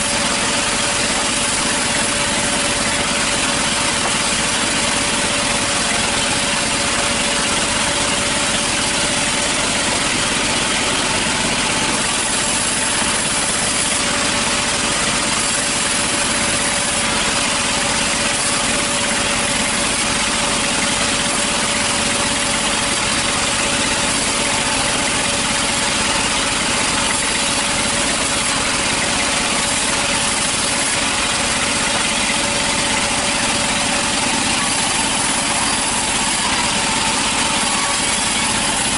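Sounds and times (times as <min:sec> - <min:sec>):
sawmill machine droning: 0:00.0 - 0:38.9.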